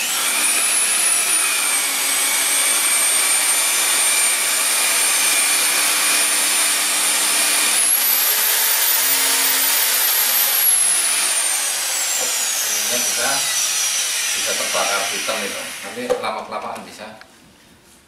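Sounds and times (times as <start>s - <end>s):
electric drill boring into wood: 0.0s - 16.4s.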